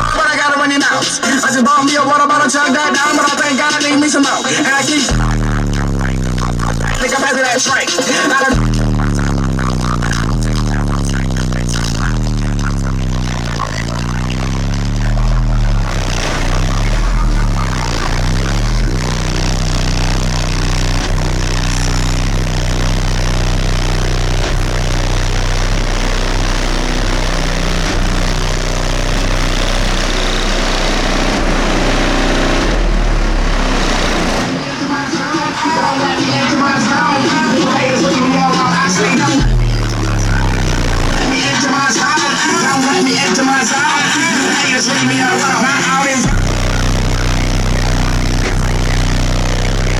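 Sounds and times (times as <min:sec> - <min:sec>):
loud deep bass from subwoofers: 0:00.0 - 0:00.8, 0:04.8 - 0:07.8, 0:08.5 - 0:49.9
heavy noisy rush: 0:00.0 - 0:49.9.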